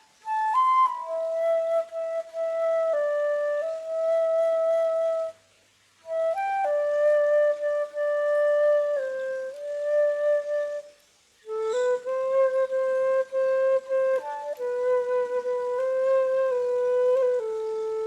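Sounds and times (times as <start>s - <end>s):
flute slow melody: 0.0s - 18.0s.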